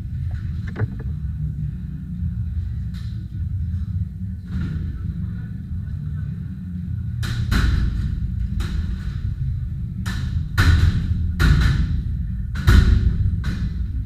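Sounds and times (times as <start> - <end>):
low background music: 0.0 - 14.0.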